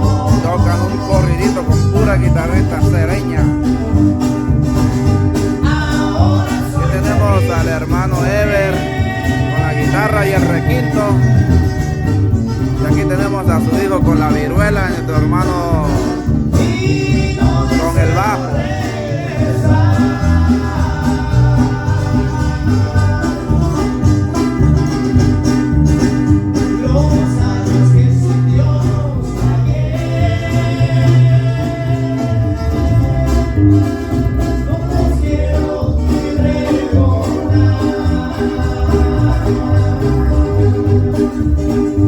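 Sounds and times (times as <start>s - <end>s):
person singing: 0.0s - 3.6s, 5.4s - 25.3s, 26.2s - 42.0s
band playing guitars and bass: 0.0s - 42.0s.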